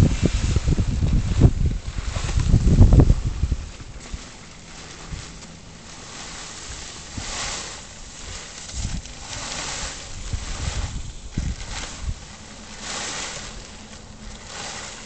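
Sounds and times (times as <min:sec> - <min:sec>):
plastic tarp rustling: 0:00.0 - 0:15.0
wind buffeting microphone: 0:00.0 - 0:15.0.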